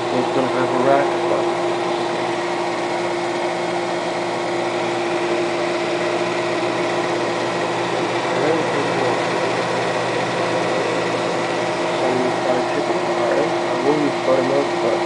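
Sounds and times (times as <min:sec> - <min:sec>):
steady mechanical whir and hum: 0:00.0 - 0:15.0.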